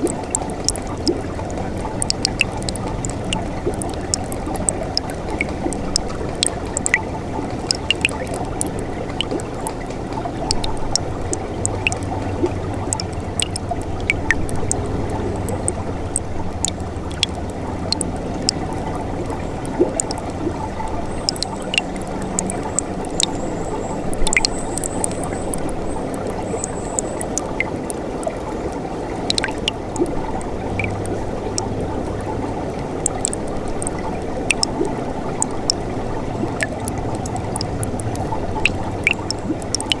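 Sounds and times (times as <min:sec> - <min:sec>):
stream running over rocks: 0:00.0 - 0:40.0
water splashes and drips: 0:00.0 - 0:40.0.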